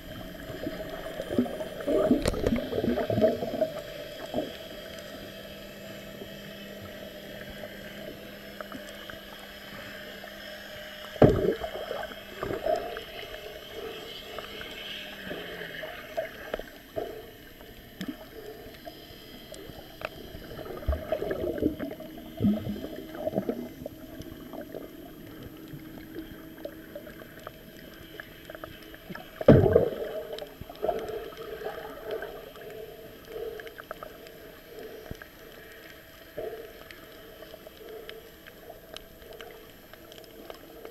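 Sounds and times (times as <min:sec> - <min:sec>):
muffled underwater gurgling: 0:00.0 - 0:40.9.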